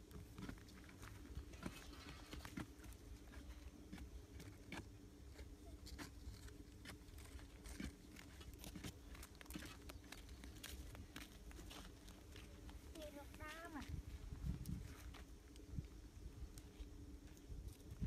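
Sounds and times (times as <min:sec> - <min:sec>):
digging in dry soil: 0:00.0 - 0:18.0
low steady rumble: 0:00.0 - 0:18.0.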